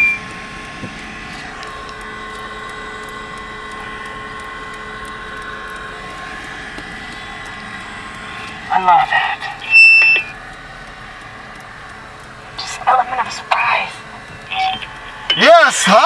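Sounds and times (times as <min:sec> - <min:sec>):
car hum from inside cabin: 0:00.0 - 0:16.0.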